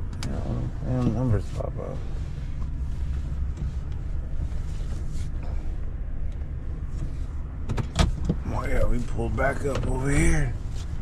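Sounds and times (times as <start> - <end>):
engine and road noise: 0.0 - 11.0.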